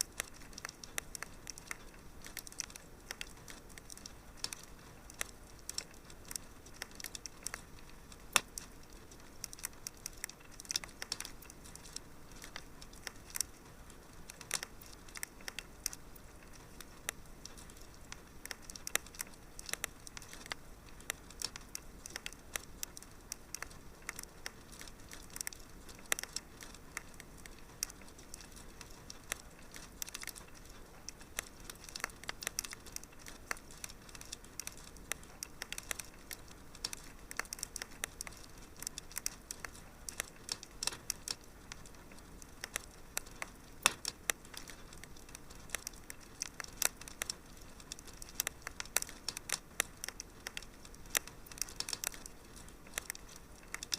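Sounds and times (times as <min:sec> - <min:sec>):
soft steady hiss: 0:00.0 - 0:53.9
wood fire popping and snapping: 0:00.0 - 0:53.9.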